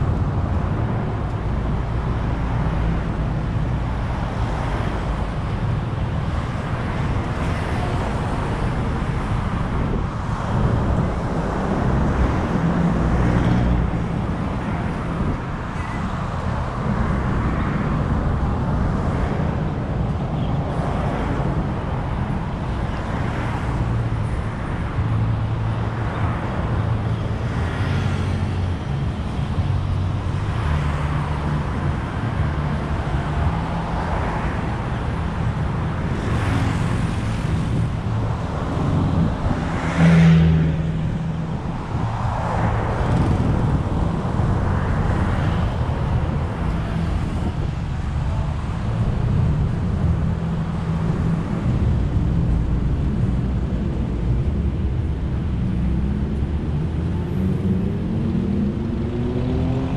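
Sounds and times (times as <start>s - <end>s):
road traffic rumble: 0.0s - 59.9s
vehicles passing: 0.0s - 59.9s.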